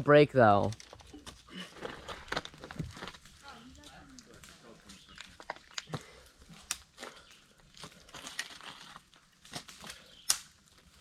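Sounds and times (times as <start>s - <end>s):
dry branches cracking: 0.6s - 11.0s.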